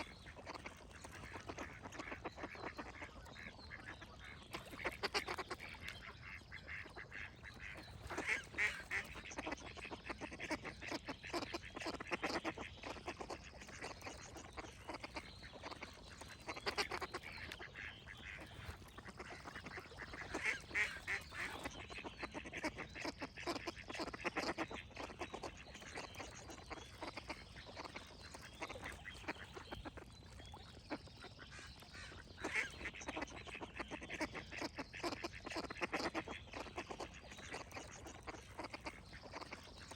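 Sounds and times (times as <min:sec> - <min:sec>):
ducks quacking: 0:00.0 - 0:39.9
faint birdsong: 0:00.0 - 0:39.9.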